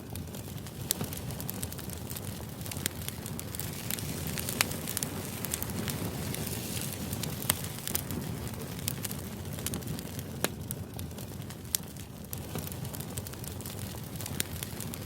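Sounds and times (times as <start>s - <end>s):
sharp crackles and clicks: 0.0s - 15.0s.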